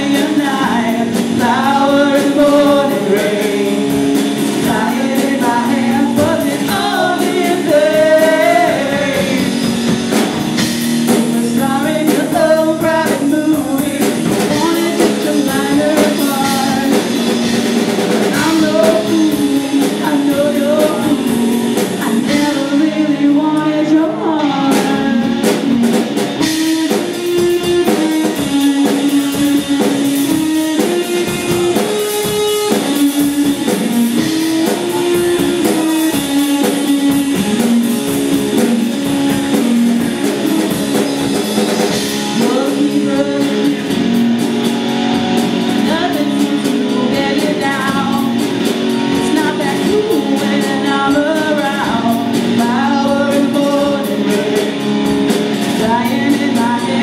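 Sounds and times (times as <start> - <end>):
person singing: 0.0 - 9.9, 11.1 - 17.4, 18.2 - 25.9, 26.6 - 44.3, 45.7 - 48.5, 49.1 - 57.0
guitar melody: 0.0 - 57.0
rock band playing: 0.0 - 57.0.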